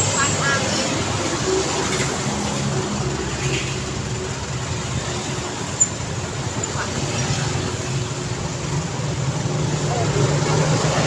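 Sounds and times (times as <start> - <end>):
heavy vehicle engine hum: 0.0 - 11.0
road traffic: 0.0 - 11.0.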